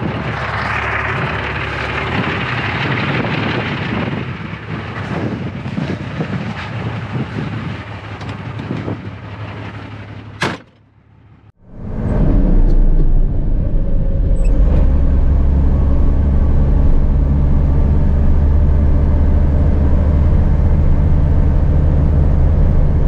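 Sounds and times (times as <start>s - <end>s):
diesel truck engine running: 0.0s - 10.4s, 11.2s - 23.0s.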